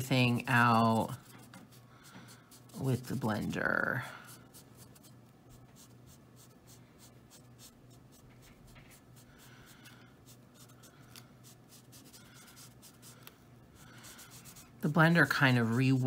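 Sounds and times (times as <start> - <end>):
marker nib scratching on paper: 0.0 - 16.0.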